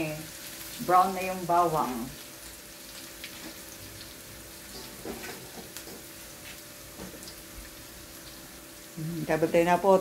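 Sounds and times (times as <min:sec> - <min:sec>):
garlic and onion sizzling in oil: 0:00.0 - 0:10.0.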